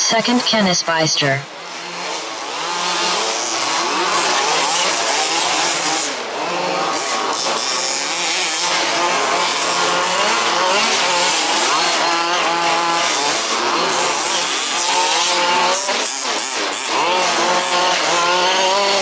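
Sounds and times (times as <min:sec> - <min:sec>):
rc buggy engines whining: 0:01.6 - 0:19.0.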